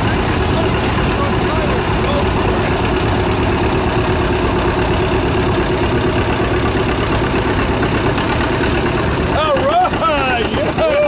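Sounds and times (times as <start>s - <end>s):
tractor engine under heavy load: 0.0s - 11.0s.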